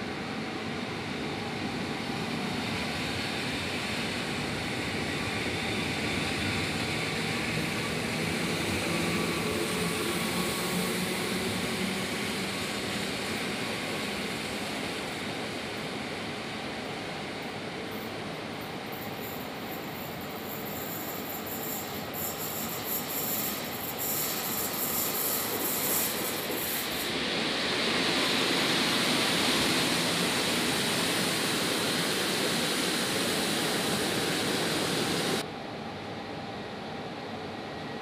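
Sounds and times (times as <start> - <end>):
electric train running on track: 0.0 - 38.0.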